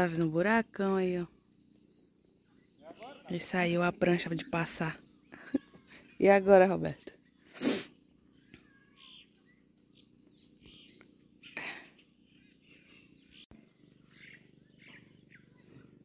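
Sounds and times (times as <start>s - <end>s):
faint bird chirps: 0.0s - 6.4s, 7.1s - 16.0s
high insect drone: 0.0s - 16.0s.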